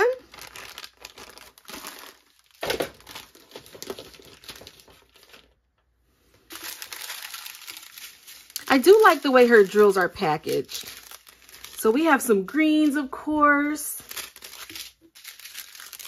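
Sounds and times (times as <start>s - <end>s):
plastic packaging crinkling: 0.0s - 5.7s, 6.4s - 16.0s.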